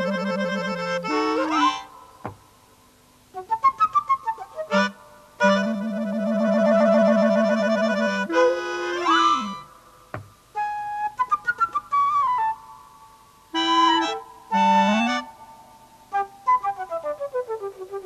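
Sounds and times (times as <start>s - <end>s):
woodwind instrumental music: 0.0s - 2.1s, 3.2s - 9.8s, 10.4s - 18.0s.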